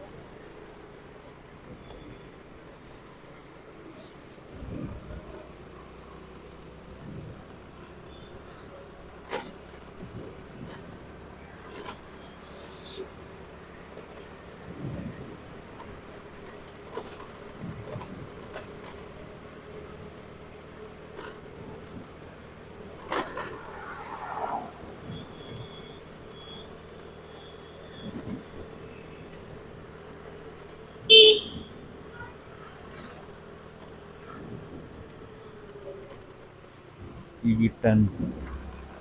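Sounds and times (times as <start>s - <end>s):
motorcycle road noise: 0.0s - 39.0s.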